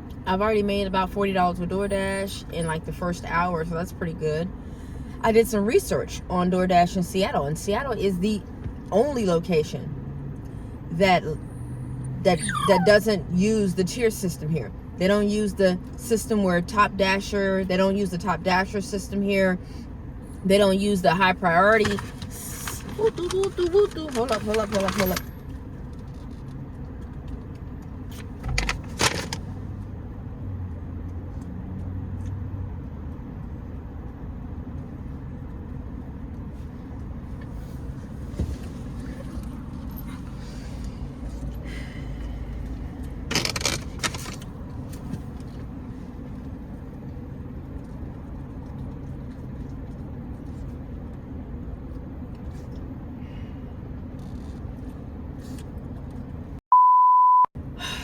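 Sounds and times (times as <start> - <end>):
car rumble from inside cabin: 0.0 - 56.6.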